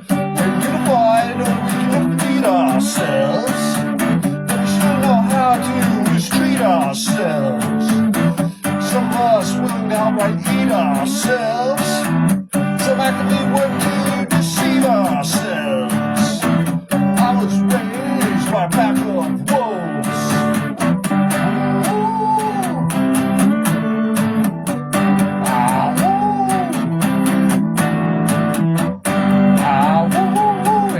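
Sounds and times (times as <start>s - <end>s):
instrumental guitar music: 0.0s - 30.9s.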